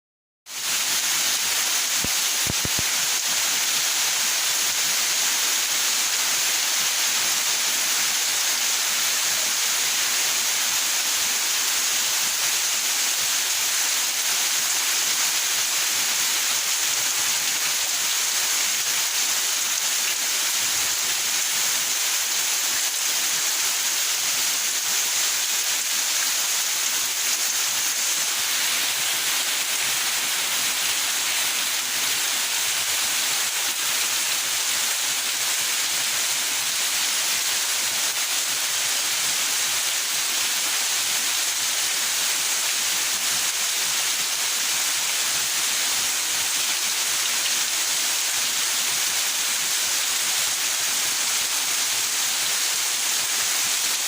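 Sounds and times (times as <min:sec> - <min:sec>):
steady rain hiss: 0:00.5 - 0:54.0.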